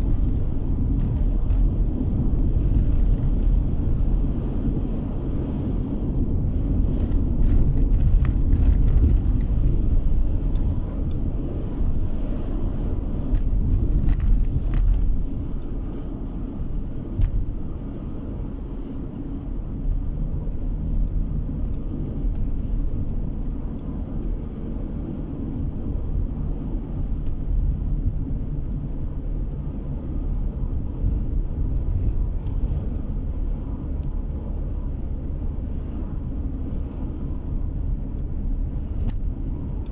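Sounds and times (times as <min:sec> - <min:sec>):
car road noise inside cabin: 0:00.0 - 0:39.9.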